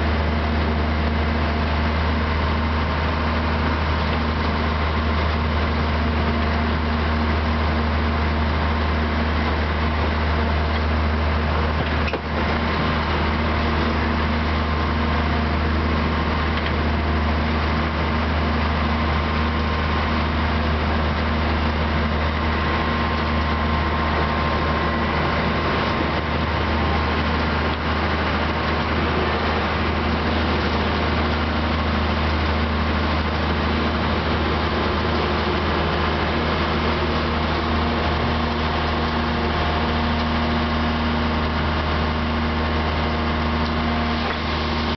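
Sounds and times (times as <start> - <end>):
diesel locomotive engine humming: 0.0 - 44.9.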